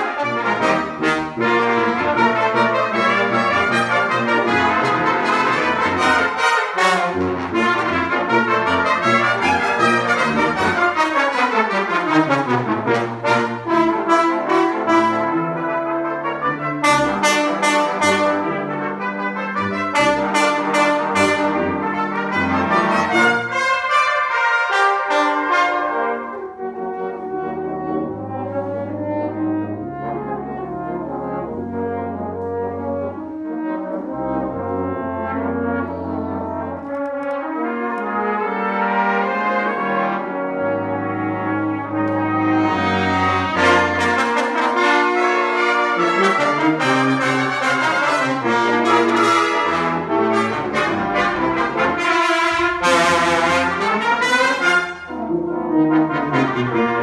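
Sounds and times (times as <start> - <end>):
brass ensemble playing: 0.0 - 57.0.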